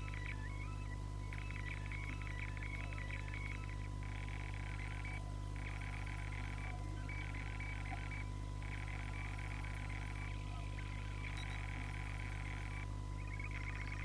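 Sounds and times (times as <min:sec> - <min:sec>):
steady low hum: 0:00.0 - 0:14.0
trilling animal calls: 0:00.0 - 0:14.0.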